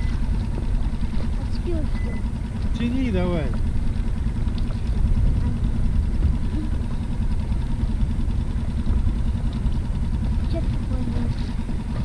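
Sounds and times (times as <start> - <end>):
outboard motor rumbling: 0.0 - 12.0.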